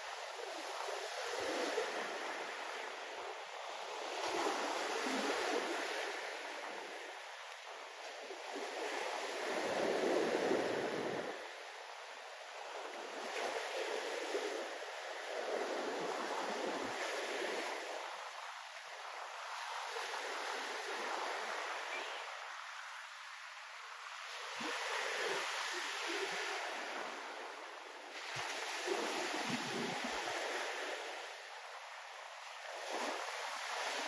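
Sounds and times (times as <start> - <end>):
waves breaking on shore: 0.0 - 34.0.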